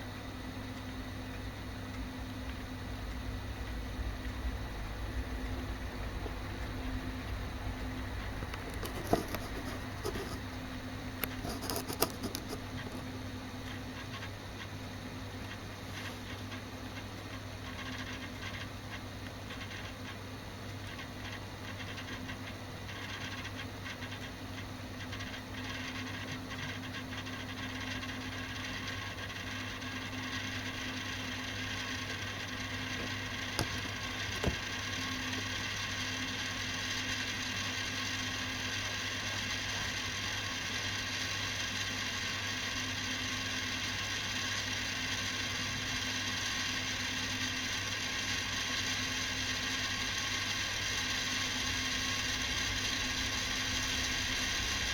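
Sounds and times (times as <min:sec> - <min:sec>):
tape deck mechanical whir: 0:00.0 - 0:54.9.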